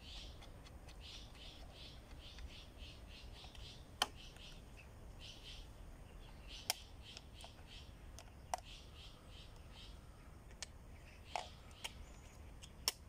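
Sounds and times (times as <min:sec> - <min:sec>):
faint rhythmic chirping: 0:00.0 - 0:13.0.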